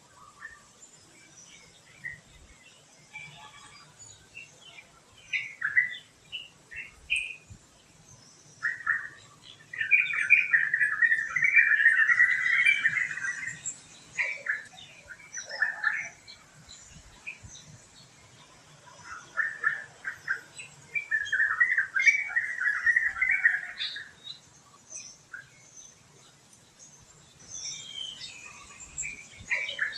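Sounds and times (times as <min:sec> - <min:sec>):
forest birds singing: 0:00.0 - 0:29.9.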